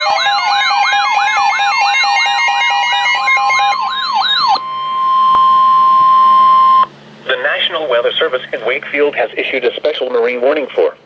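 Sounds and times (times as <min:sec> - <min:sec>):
steady loud alarm tone: 0:00.0 - 0:09.5
sirens sweeping up and down: 0:00.0 - 0:10.9.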